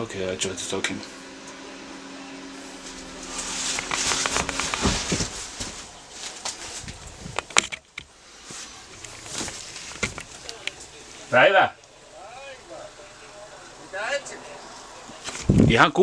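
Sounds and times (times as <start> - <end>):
footsteps: 0.0 - 16.0.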